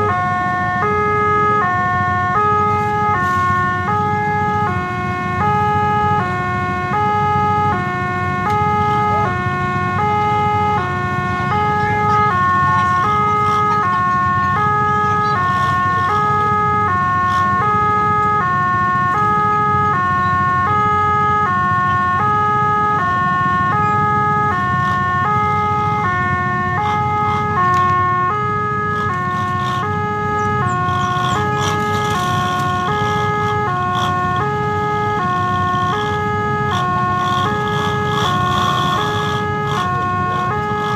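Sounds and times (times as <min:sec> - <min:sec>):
level-crossing alarm two-tone signal: 0:00.0 - 0:40.9
motorcycle engines rumbling: 0:00.0 - 0:40.9.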